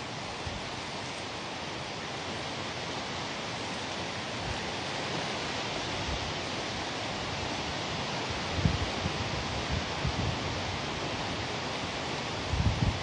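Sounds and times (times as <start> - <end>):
heavy rain: 0.0 - 13.0
wind in trees: 0.0 - 13.0.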